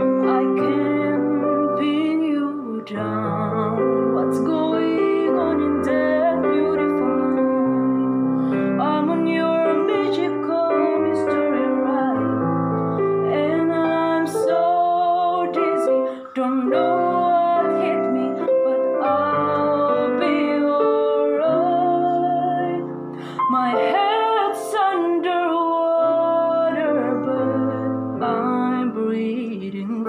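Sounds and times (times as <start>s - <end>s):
woman singing pop song: 0.0s - 12.5s, 13.1s - 30.0s
piano: 0.0s - 30.0s.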